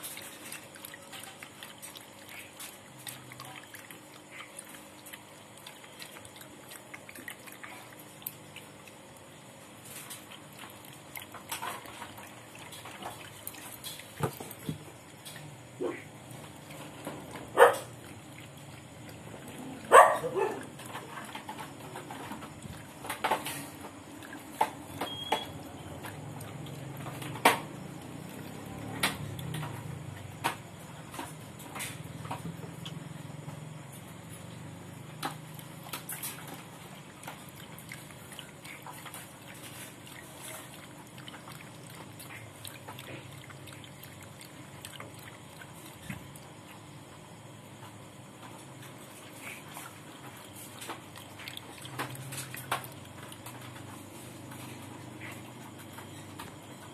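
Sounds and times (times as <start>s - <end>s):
dog lapping milk: 0.0s - 33.2s, 34.3s - 47.1s, 48.5s - 56.6s.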